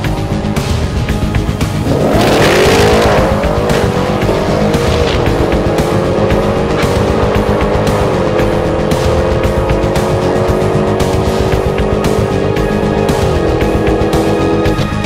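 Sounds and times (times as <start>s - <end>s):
car engine accelerating: 0.0s - 15.0s
music: 0.0s - 15.0s.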